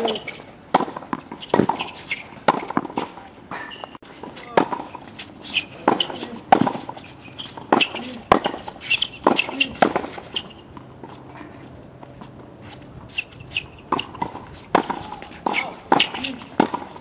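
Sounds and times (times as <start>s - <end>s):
tennis balls bouncing on court: 0.0s - 5.0s, 5.6s - 11.2s, 13.4s - 17.0s
tennis balls struck by rackets: 0.0s - 11.2s, 13.5s - 17.0s
shoes squeaking on court: 0.0s - 17.0s.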